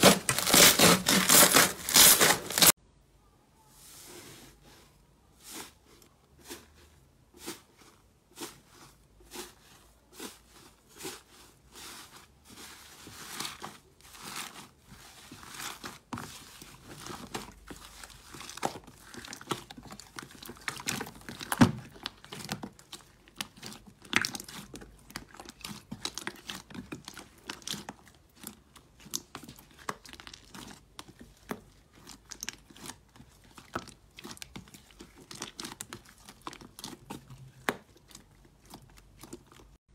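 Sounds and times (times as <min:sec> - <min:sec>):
slime crackling and squishing: 0:00.0 - 0:02.8, 0:07.4 - 0:39.8.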